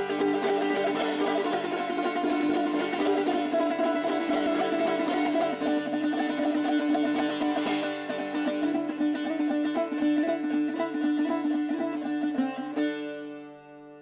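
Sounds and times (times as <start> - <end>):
plucked lute: 0.0 - 14.0.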